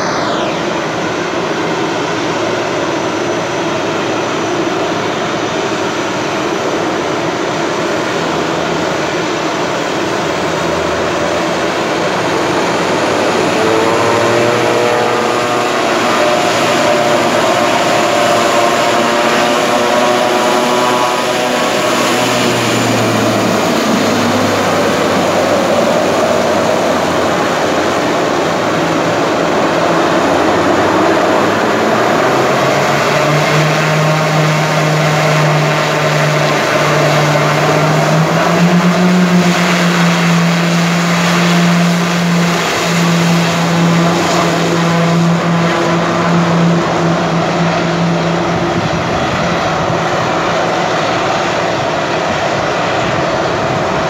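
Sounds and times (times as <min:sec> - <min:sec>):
turboprop engines drone: 0:00.0 - 0:54.0.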